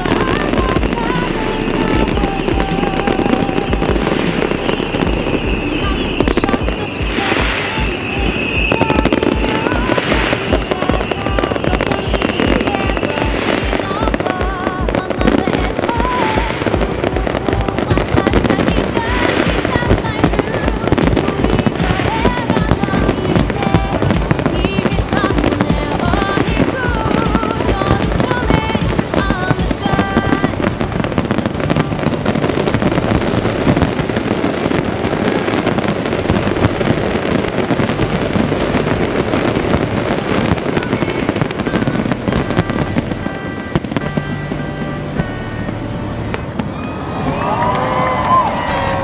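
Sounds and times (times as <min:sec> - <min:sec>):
music with bass beat: 0:00.0 - 0:34.1, 0:36.2 - 0:40.2, 0:41.6 - 0:43.3, 0:44.0 - 0:46.6
fireworks crackling: 0:00.0 - 0:49.0.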